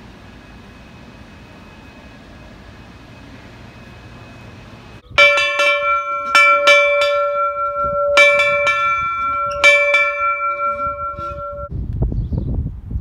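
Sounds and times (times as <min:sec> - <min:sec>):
locomotive bell clanging: 0:00.0 - 0:11.7.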